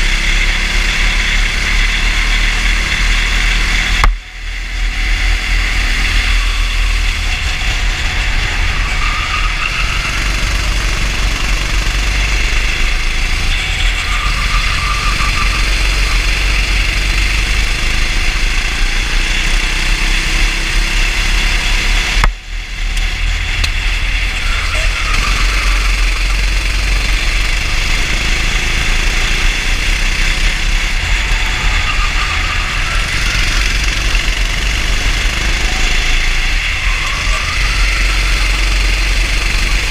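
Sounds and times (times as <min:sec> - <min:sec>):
kart engine droning: 0:00.0 - 0:39.9.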